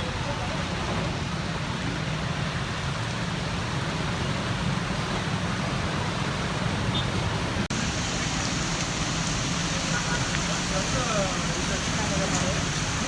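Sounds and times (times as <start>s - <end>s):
heavy rain: 0.0s - 13.0s
traffic on a wet road: 0.0s - 13.0s.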